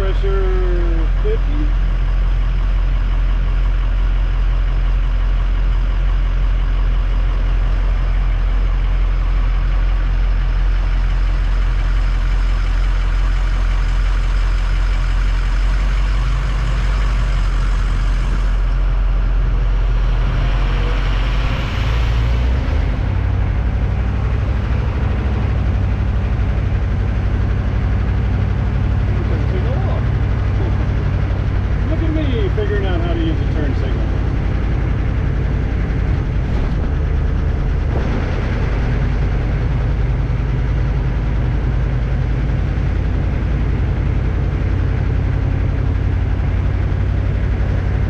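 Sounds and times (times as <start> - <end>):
diesel truck engine idling: 0.0 - 48.0
truck pulling away: 0.0 - 48.0.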